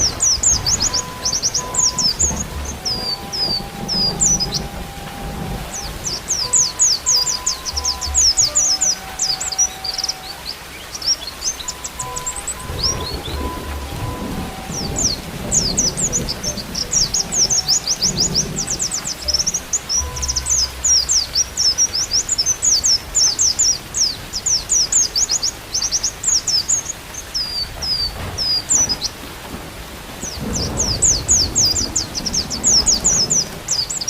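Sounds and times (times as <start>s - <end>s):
bird twittering: 0.0s - 29.1s, 30.2s - 34.0s
rain rumble: 0.0s - 34.0s.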